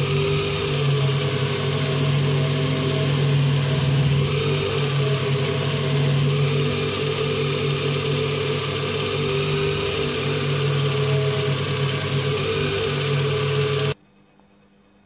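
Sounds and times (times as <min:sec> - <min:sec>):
metal lathe motor hum: 0:00.0 - 0:14.0.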